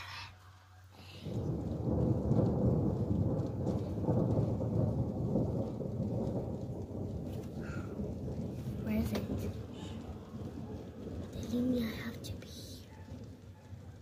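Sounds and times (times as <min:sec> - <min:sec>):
thunder rumbling: 0:00.0 - 0:14.0.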